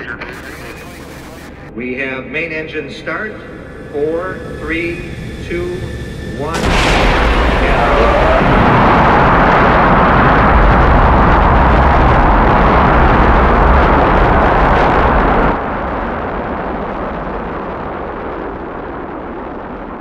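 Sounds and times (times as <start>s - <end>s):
rocket engines rumbling: 0.0s - 20.0s.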